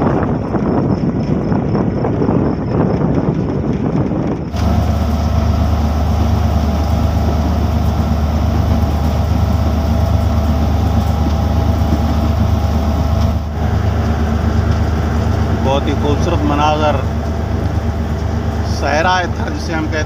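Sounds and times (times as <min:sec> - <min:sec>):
locomotive engine drone: 0:00.0 - 0:20.0.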